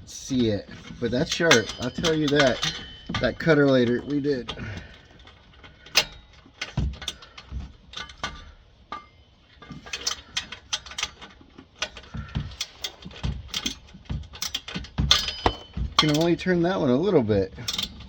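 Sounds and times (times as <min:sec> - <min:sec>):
tools clicking on metal: 0:00.4 - 0:16.4, 0:17.6 - 0:18.0.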